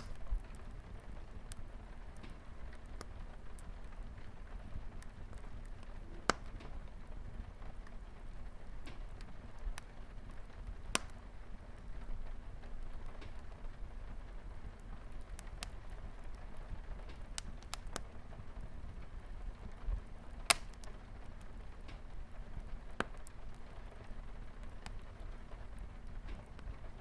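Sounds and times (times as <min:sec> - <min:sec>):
light rain on a window: 0:00.0 - 0:27.0
wood fire crackling and popping: 0:00.0 - 0:27.0.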